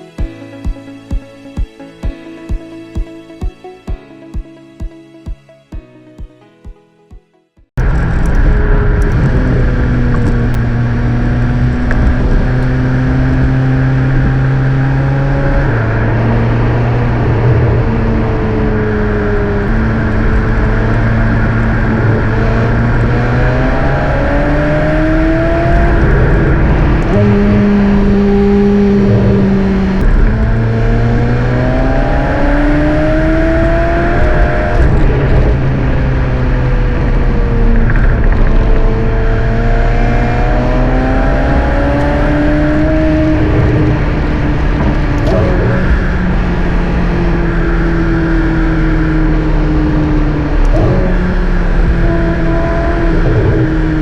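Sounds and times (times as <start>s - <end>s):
car engine accelerating: 7.8s - 54.0s.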